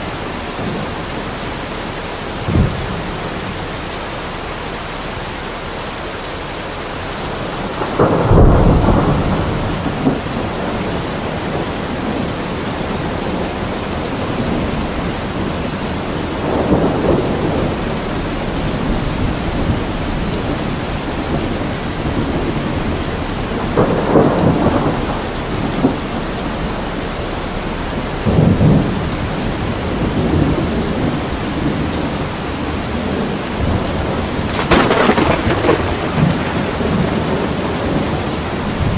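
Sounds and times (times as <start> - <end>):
heavy rain falling: 0.0 - 38.9
rumbling thunderclaps: 2.4 - 3.6, 7.2 - 38.9.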